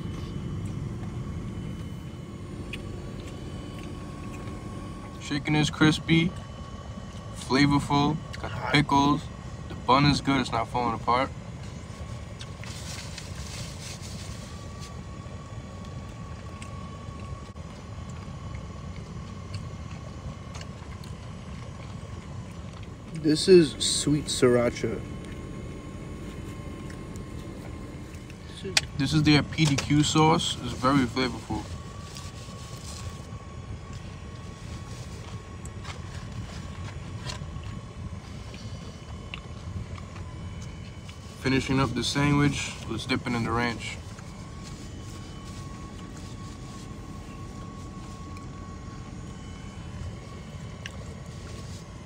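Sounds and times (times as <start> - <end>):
car cabin engine rumble: 0.0 - 52.0
faint steady whine: 0.0 - 52.0.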